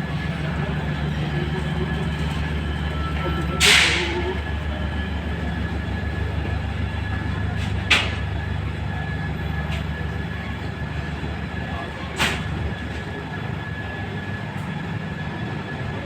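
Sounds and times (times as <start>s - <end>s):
passenger train humming: 0.0s - 16.0s.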